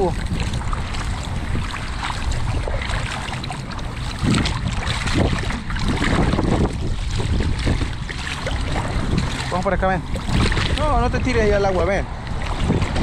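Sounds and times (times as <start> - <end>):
feet wading through shallow water: 0.0 - 13.0
wind rumbling on microphone: 0.0 - 13.0.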